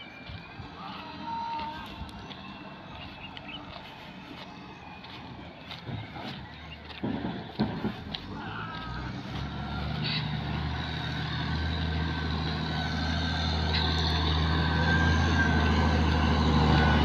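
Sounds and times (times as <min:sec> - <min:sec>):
diesel engine running under load: 0:01.5 - 0:17.0.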